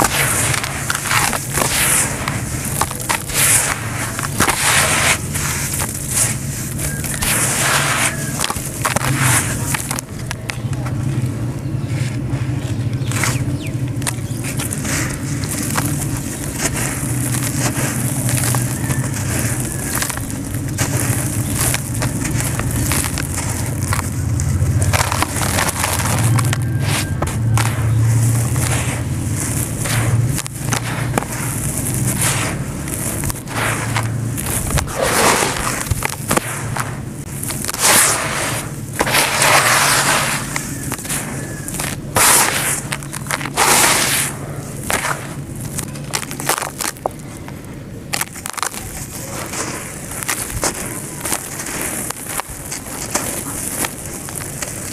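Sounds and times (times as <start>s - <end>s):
hands crumbling dry sand: 0.0s - 54.9s
steady low rumble: 0.0s - 54.9s.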